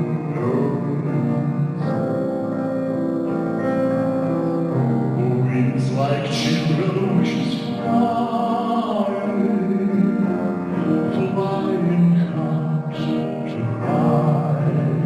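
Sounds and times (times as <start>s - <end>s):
man singing with vibrato: 0.0s - 3.2s, 3.8s - 15.0s
piano accompaniment: 0.0s - 15.0s.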